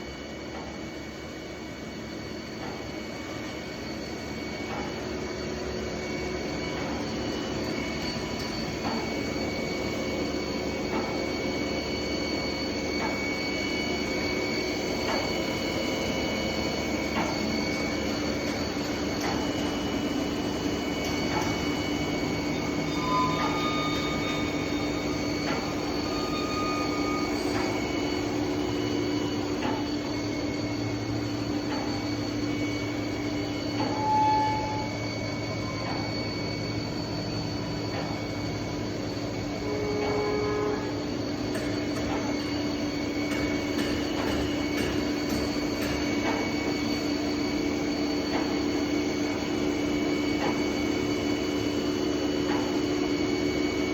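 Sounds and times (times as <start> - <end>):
machining center humming and whining: 0.0 - 53.9.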